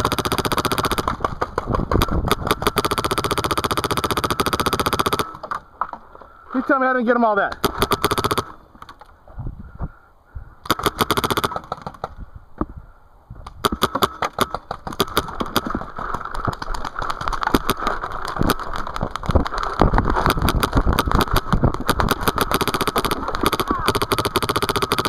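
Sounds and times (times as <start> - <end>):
paintball markers firing: 0.0 - 5.6, 7.5 - 9.0, 10.6 - 12.2, 13.5 - 25.0.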